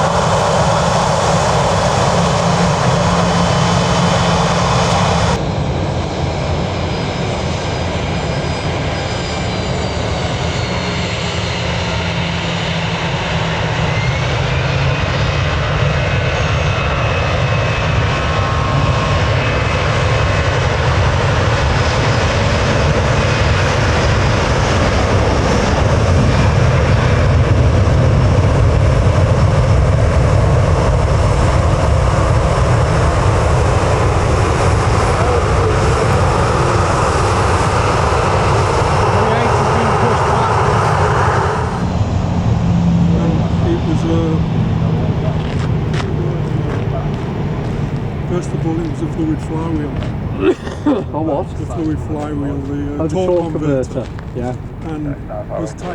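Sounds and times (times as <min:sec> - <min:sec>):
faint turbine whine: 0:00.0 - 0:55.9
jet engines rumbling: 0:00.0 - 0:55.9.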